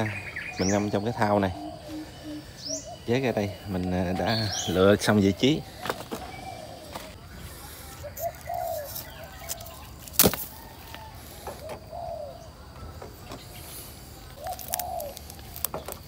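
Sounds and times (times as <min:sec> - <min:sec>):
dove cooing: 0:00.0 - 0:07.2, 0:08.0 - 0:09.3, 0:10.6 - 0:15.9.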